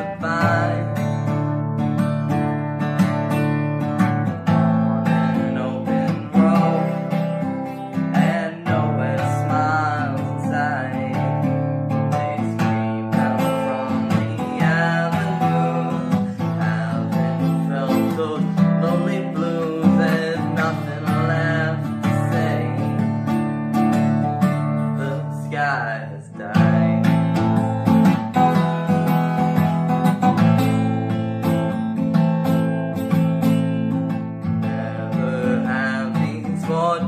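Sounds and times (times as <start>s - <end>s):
acoustic guitar strummed: 0.0s - 37.0s.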